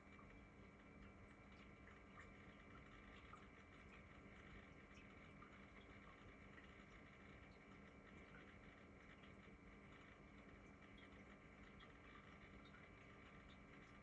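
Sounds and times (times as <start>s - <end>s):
water fountain pump hum: 0.0s - 14.0s
water trickling: 0.0s - 14.0s.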